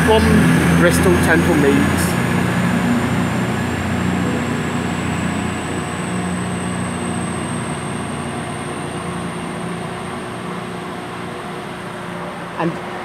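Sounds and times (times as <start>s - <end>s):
thin high-pitched whine: 0.0s - 12.8s
diesel train engines droning: 0.0s - 13.0s.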